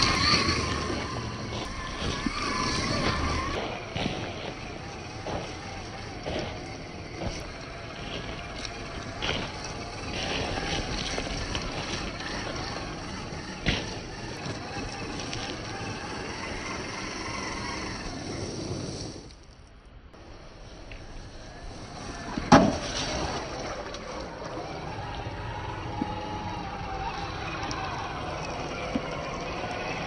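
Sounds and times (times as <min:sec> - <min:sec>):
electric motor whining: 0:00.0 - 0:19.3, 0:20.2 - 0:30.0
tyres on dirt and rock: 0:00.0 - 0:30.0.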